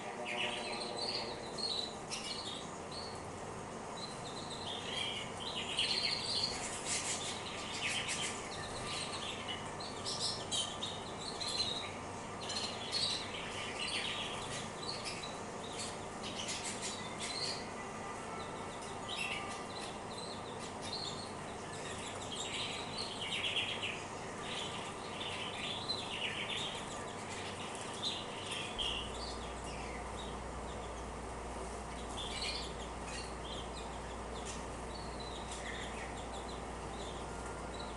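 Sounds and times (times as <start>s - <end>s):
canaries chirping: 0.0s - 37.9s.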